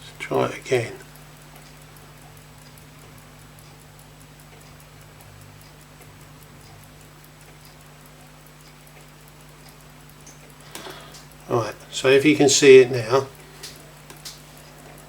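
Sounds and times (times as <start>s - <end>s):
low electrical hum: 0.0s - 15.0s
watch ticking: 0.0s - 15.0s.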